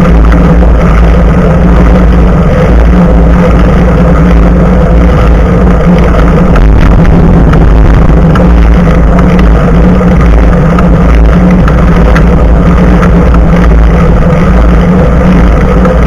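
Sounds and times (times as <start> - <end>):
bicycle road rumble: 0.0 - 16.0
wind buffeting microphone: 0.0 - 16.0.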